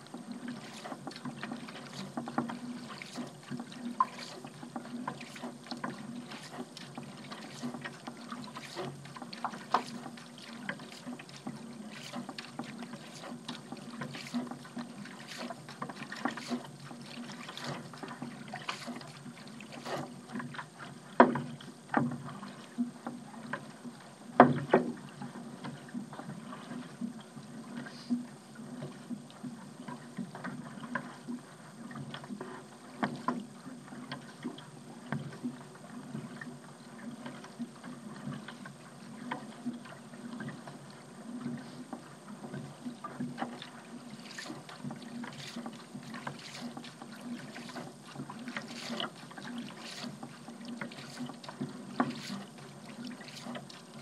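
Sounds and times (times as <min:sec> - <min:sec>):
paddle splashing in water: 0:00.0 - 0:54.0.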